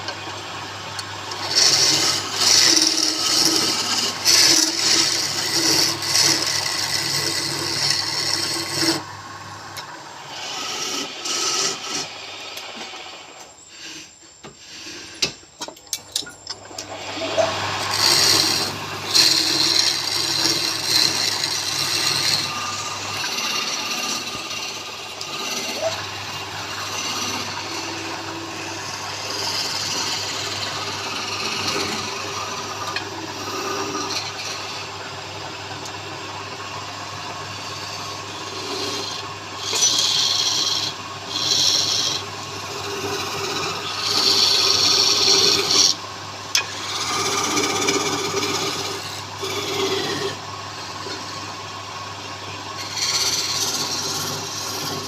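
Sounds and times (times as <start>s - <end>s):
wood lathe humming: 0.0s - 15.3s, 16.6s - 55.0s
tool scraping spinning wood: 0.0s - 15.6s, 16.6s - 55.0s.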